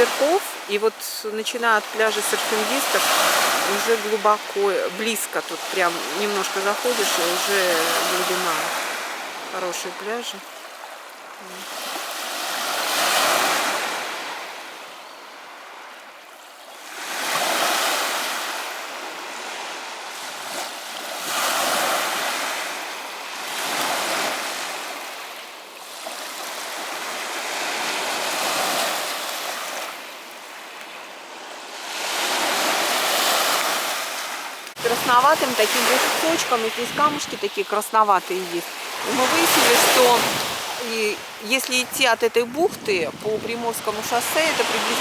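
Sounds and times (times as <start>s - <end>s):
waves washing onto shore: 0.0s - 45.0s.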